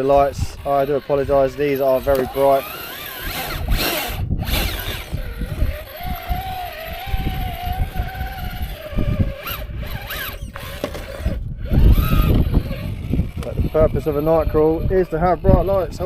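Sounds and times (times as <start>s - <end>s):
electric motor whining: 0.0s - 16.0s
tyres rumbling on rock: 0.0s - 16.0s.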